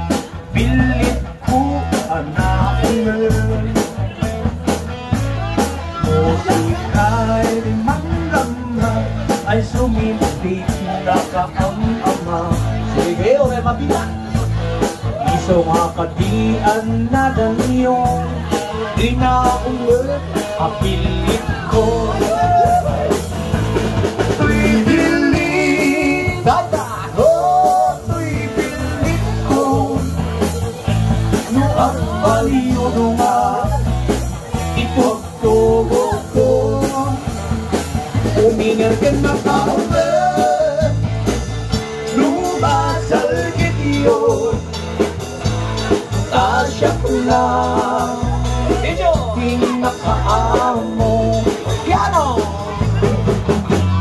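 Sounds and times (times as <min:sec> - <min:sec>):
bass guitar: 0:00.0 - 0:54.0
electric guitar: 0:00.0 - 0:54.0
person singing: 0:00.0 - 0:54.0
steady drum beat: 0:00.0 - 0:54.0.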